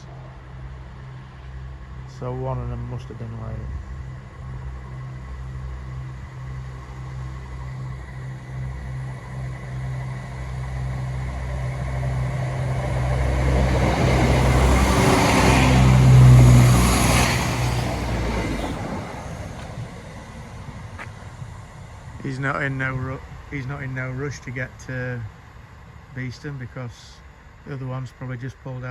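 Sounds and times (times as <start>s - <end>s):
diesel train engine: 0.0s - 28.9s
train wheel rumble: 0.0s - 28.9s.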